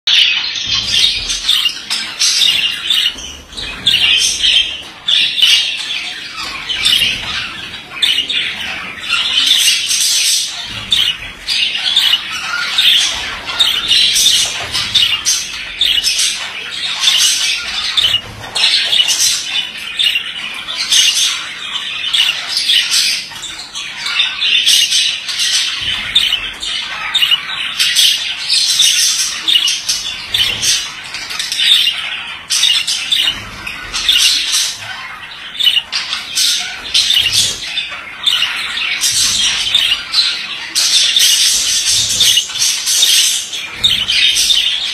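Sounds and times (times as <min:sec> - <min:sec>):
budgerigar warbling and chattering: 0:00.1 - 0:44.9.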